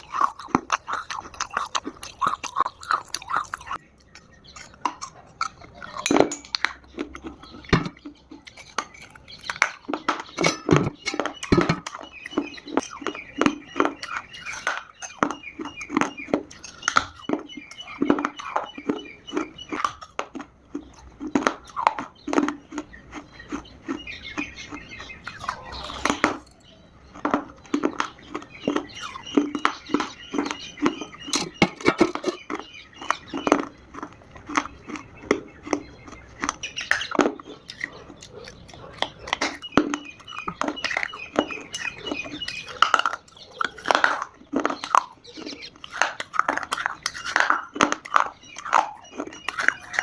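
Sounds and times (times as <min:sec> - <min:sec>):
clay chunks crunched and chewed: 0:00.0 - 0:50.0.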